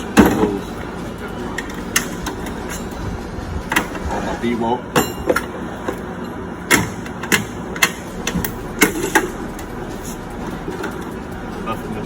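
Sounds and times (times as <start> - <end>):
tools and drawers clacking: 0.0 - 3.0, 3.6 - 11.3
steady background noise: 0.0 - 12.0.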